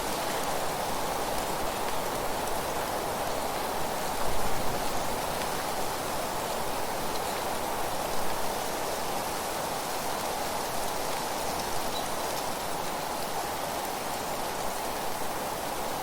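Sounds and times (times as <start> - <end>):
rustling leaves: 0.0 - 16.0
wind: 0.0 - 16.0.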